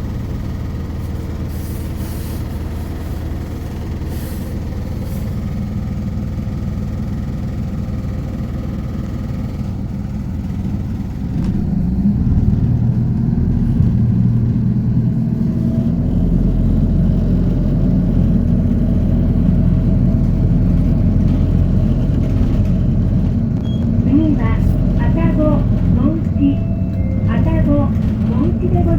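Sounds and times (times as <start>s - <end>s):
diesel bus engine running: 0.0s - 28.9s.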